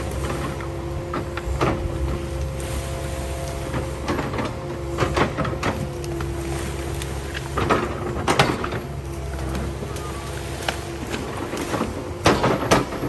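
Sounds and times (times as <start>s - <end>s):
diesel engine running: 0.0s - 13.0s
hydraulic whine: 0.0s - 13.0s.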